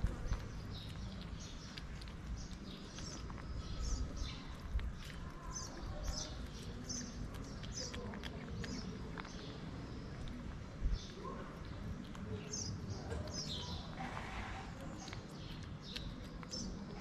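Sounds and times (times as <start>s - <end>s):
kitten chewing wet food: 0.0s - 17.0s
small birds chirping: 0.0s - 17.0s.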